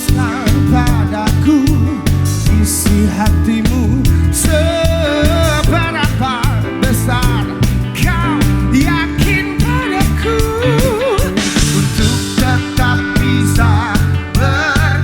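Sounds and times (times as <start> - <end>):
live pop-rock band playing: 0.0 - 15.0.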